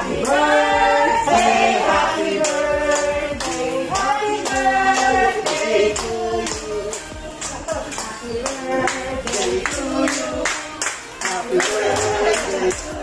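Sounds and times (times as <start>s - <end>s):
voices singing long notes: 0.0s - 13.0s
hand claps: 1.3s - 12.9s.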